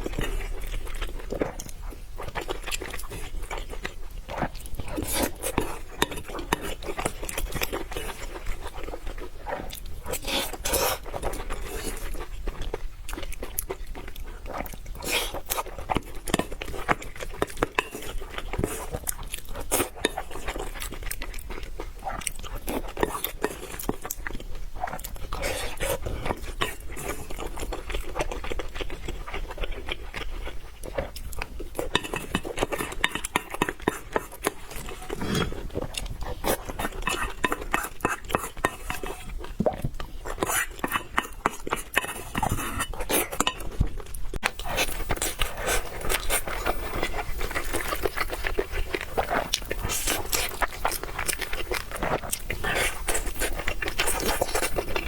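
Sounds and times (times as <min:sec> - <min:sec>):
person chewing noodles: 0:00.0 - 0:55.0.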